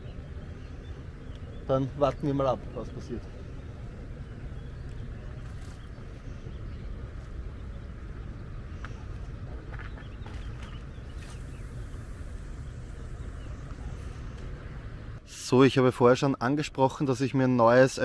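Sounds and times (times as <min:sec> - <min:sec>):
faint bird chirps: 0:00.0 - 0:14.8
low rumble: 0:00.0 - 0:15.5.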